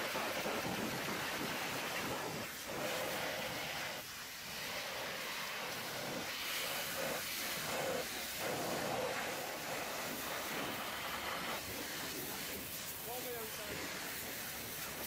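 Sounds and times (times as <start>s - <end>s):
pressure washer jet hissing: 0.0s - 15.0s.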